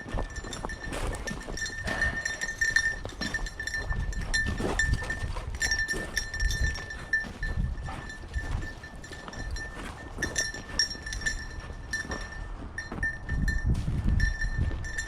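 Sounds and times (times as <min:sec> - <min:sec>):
footsteps through field cover: 0:00.0 - 0:15.0.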